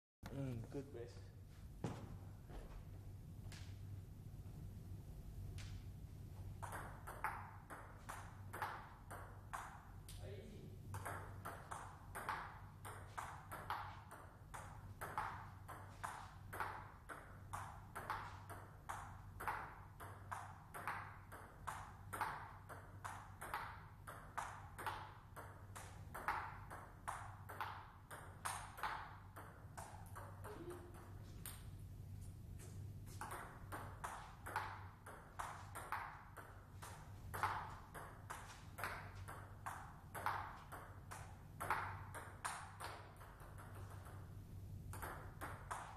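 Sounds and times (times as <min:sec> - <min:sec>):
steady low hum: 0:00.2 - 0:45.9
table-tennis ball hits: 0:06.4 - 0:10.2, 0:10.9 - 0:31.8, 0:33.1 - 0:45.9.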